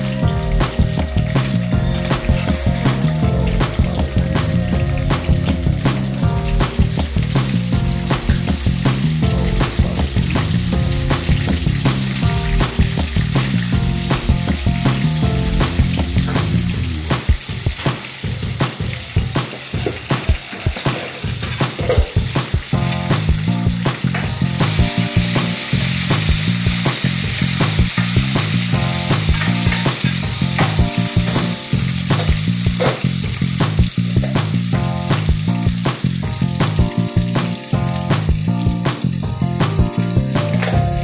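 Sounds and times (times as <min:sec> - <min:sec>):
curry sizzling in a pan: 0:00.0 - 0:41.0.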